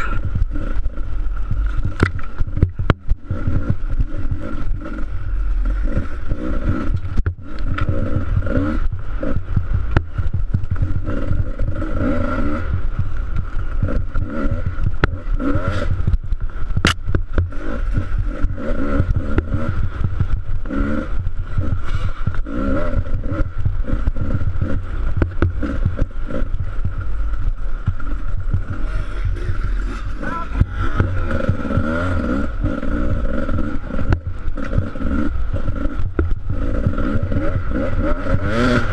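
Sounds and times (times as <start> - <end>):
bike rattling: 0.0 - 38.9
motorcycle engine revving: 0.0 - 38.9
wind rumble on microphone: 0.0 - 38.9.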